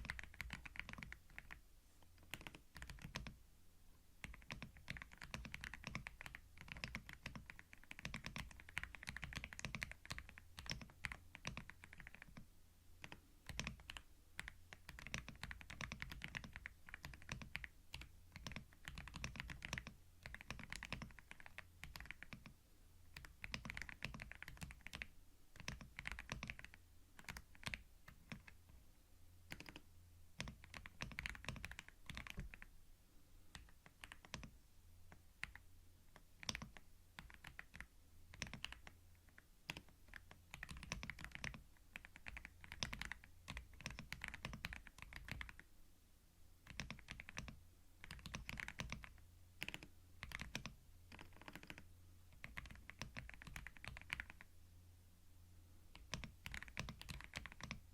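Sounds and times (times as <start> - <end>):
computer keyboard typing: 0.0 - 3.4, 4.2 - 28.8, 29.4 - 32.7, 33.5 - 45.7, 46.6 - 54.5, 55.9 - 57.9.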